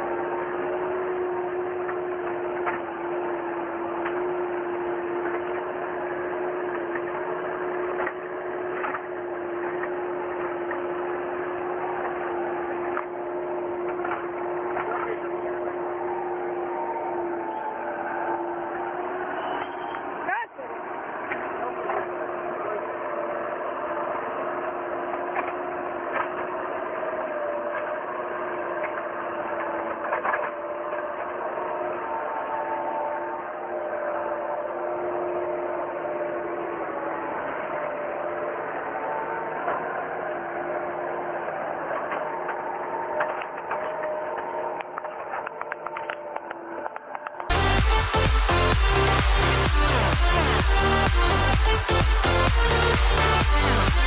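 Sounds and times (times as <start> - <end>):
loader engine humming: 0.0 - 54.0.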